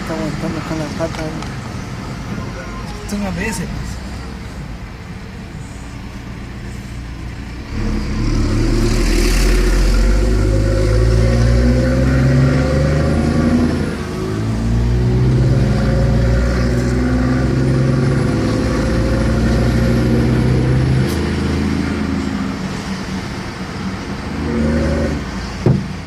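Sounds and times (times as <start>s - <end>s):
diesel coach engine running: 0.0s - 26.0s.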